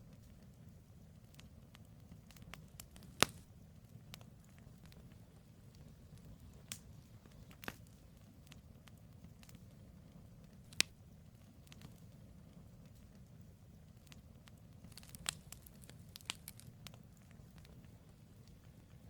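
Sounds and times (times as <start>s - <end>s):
firewood popping and crackling: 0.0s - 19.0s
low rumble of flames: 0.0s - 19.0s.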